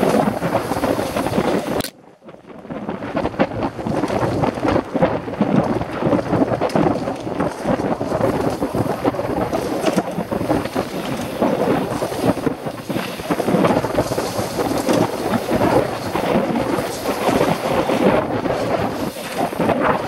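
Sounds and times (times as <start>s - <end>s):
bike tyres rumbling over dirt: 0.0s - 20.0s
wind buffeting microphone: 0.0s - 20.0s.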